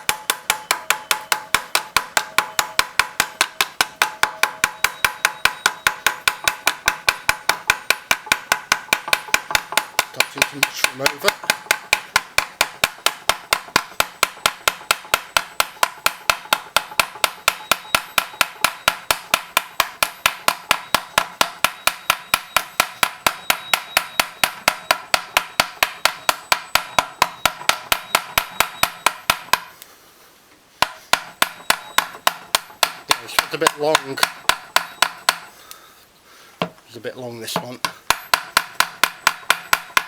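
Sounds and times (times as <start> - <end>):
light hammer tapping rivet: 0.0 - 29.8, 30.8 - 35.8.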